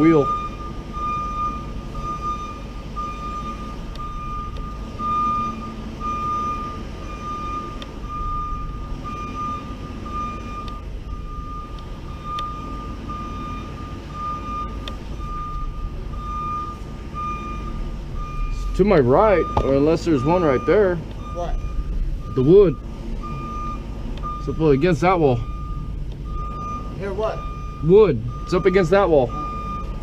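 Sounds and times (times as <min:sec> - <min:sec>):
truck backup alarm beeping: 0:00.0 - 0:30.0
truck engine running: 0:00.0 - 0:30.0.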